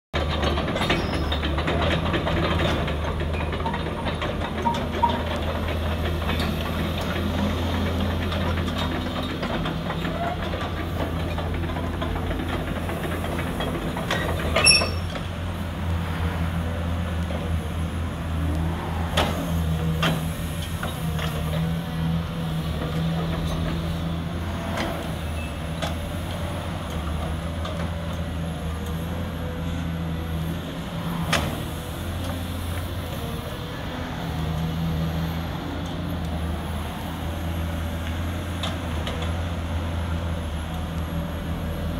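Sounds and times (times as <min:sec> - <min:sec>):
steel tracks clanking: 0:00.2 - 0:39.6
excavator diesel engine running: 0:00.2 - 0:41.9.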